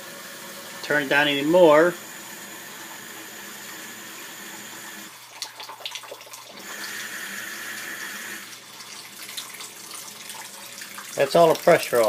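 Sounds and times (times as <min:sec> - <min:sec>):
water running from faucet: 0:00.0 - 0:12.0.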